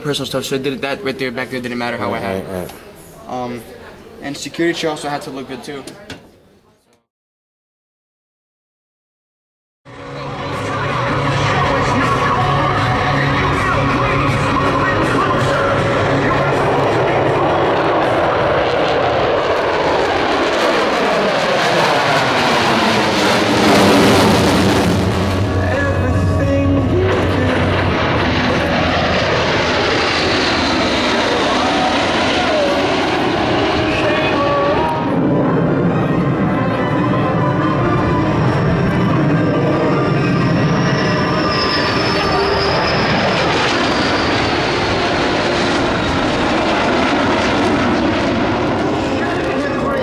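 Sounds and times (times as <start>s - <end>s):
aircraft engine noise: 9.9s - 50.0s.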